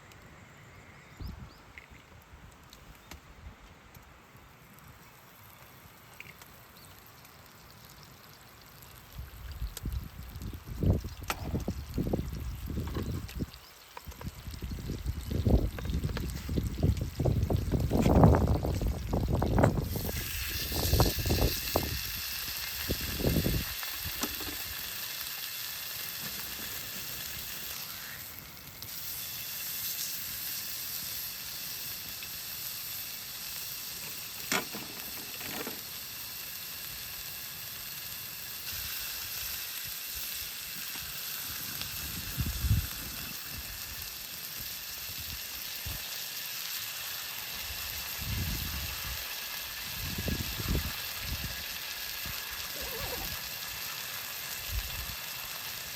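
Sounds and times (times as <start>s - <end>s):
food sizzling in a pan: 4.7s - 55.9s.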